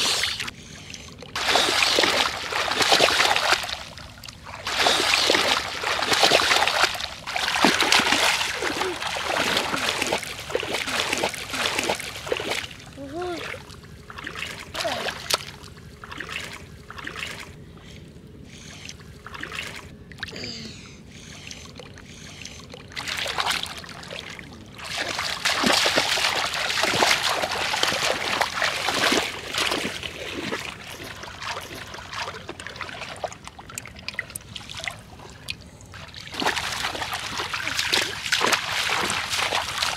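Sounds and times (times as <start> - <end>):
shallow water splashing: 0.0 - 20.3, 21.1 - 39.9
running steps through water: 1.4 - 17.5, 23.0 - 39.9.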